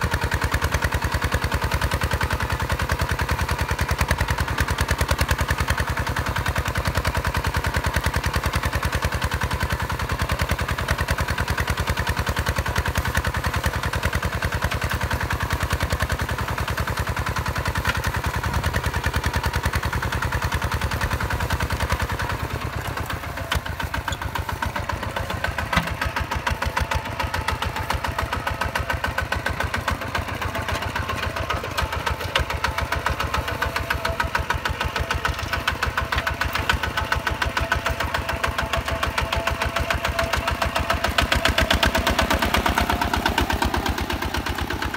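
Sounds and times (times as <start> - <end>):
tractor diesel engine chugging: 0.0 - 44.9.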